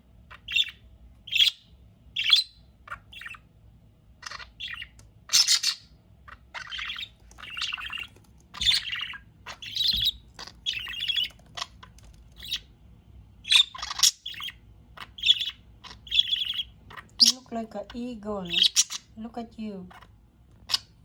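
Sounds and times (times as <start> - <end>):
budgerigars chirping: 0.3 - 3.5, 4.2 - 12.7, 13.4 - 19.2, 19.9 - 21.0.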